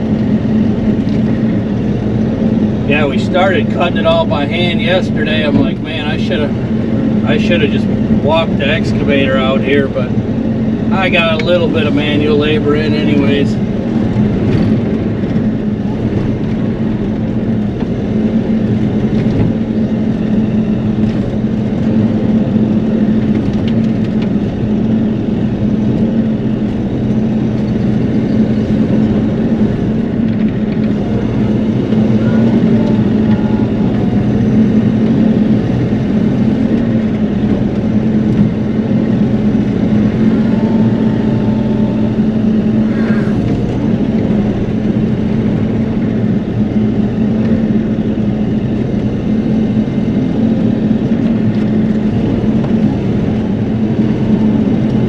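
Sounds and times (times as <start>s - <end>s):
excavator diesel engine drone: 0.0s - 55.0s.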